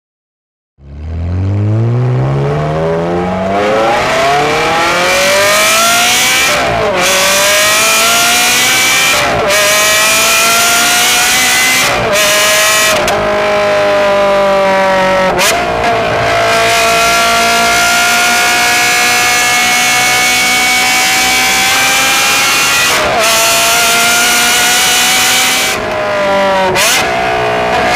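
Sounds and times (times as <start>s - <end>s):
sports car engine accelerating: 0.8s - 27.9s.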